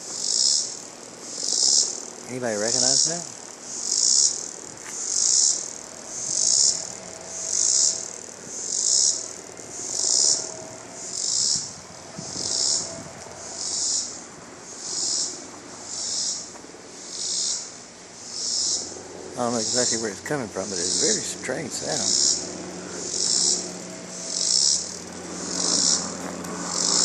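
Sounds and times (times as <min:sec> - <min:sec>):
insect clicking rasp: 0:00.1 - 0:14.2, 0:14.8 - 0:15.3, 0:15.9 - 0:17.7, 0:18.3 - 0:20.0, 0:20.6 - 0:27.0.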